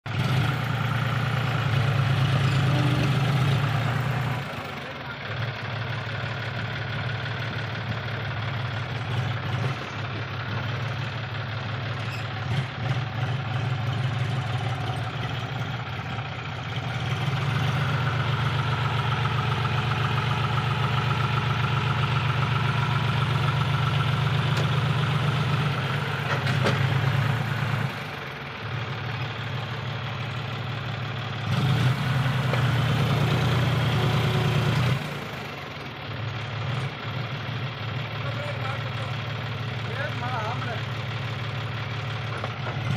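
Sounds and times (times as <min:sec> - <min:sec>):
tractor diesel engine straining: 0:00.1 - 0:42.9.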